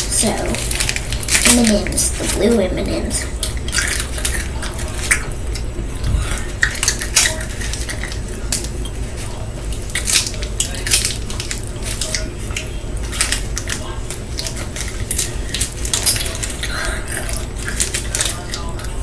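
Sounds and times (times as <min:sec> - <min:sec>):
plastic wrapper crinkling: 0:00.0 - 0:19.0.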